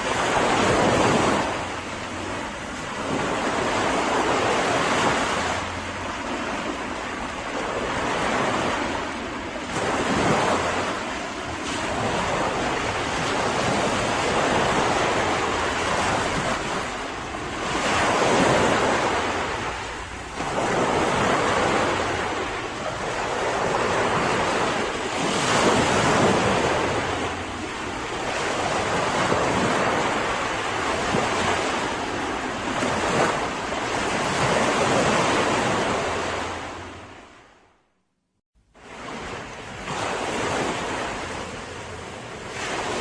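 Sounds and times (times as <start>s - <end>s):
wind buffeting microphone: 0.0s - 37.3s
sea waves washing onto beach: 0.0s - 37.4s, 38.8s - 43.0s.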